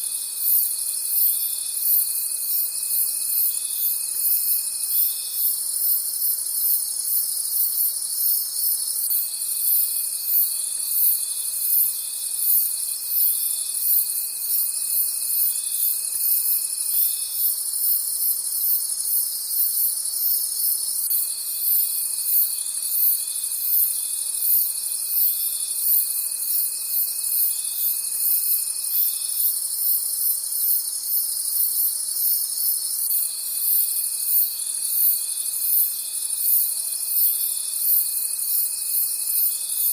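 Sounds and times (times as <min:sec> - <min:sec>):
crickets chirping: 0:00.0 - 0:39.9
lower insect trill: 0:00.0 - 0:39.9.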